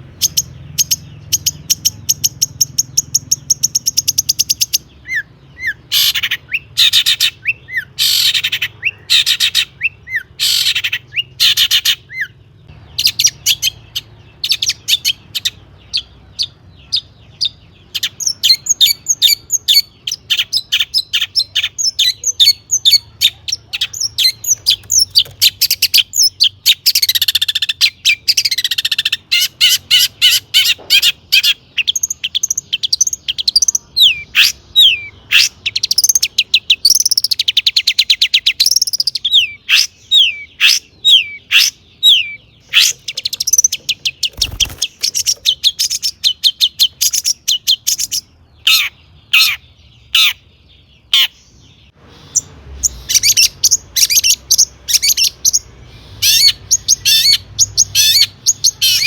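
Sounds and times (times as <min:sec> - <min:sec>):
shrike singing: 0:00.0 - 0:59.0.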